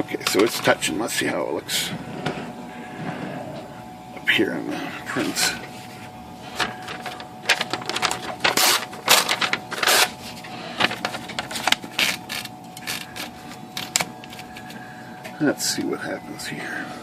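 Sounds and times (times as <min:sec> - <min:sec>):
faint motor hum: 0:00.0 - 0:17.0.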